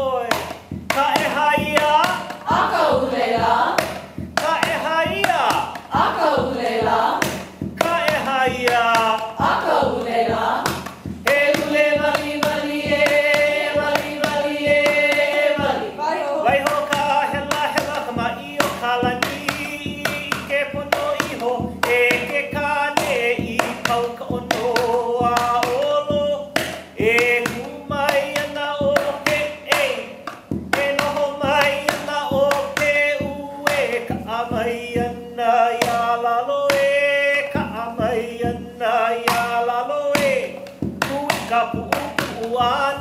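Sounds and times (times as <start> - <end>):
gourd drum beat: 0.0 - 43.0.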